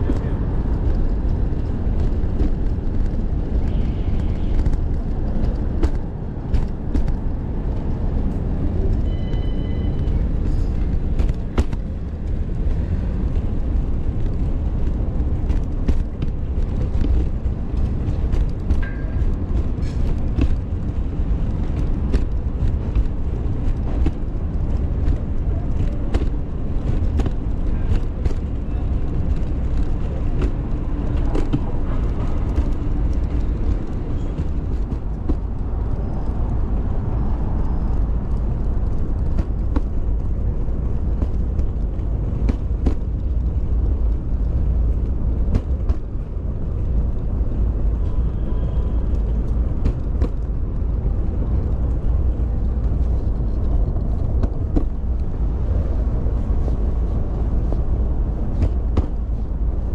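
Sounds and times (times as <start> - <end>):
street traffic: 0.0 - 59.9
stroller wheels rumbling: 0.0 - 59.9.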